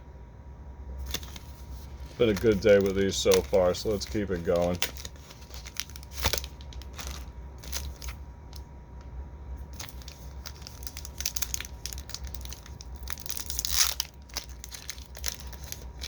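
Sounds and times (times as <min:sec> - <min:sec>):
foil wrapper crinkling and tearing: 0:01.0 - 0:08.6, 0:09.6 - 0:16.0.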